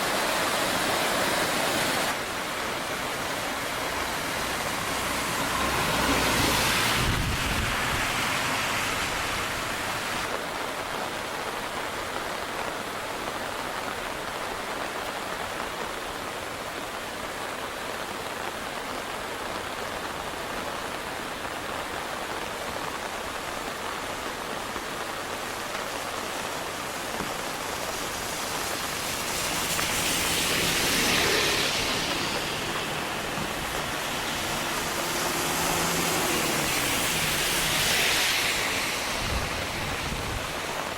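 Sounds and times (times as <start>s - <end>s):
fast river water rushing: 0.0s - 40.9s.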